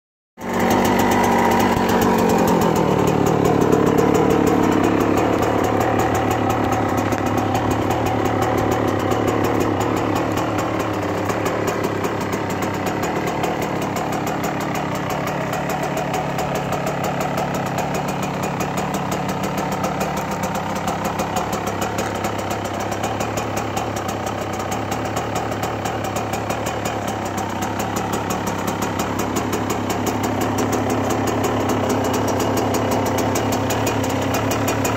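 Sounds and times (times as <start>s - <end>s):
two-stroke engine idling: 0.4s - 34.9s.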